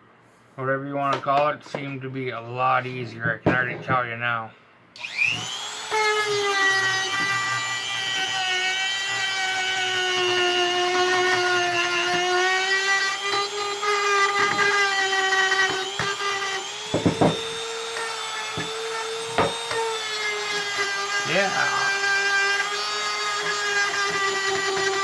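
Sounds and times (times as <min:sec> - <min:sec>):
rotary tool motor whine: 0:05.0 - 0:25.0.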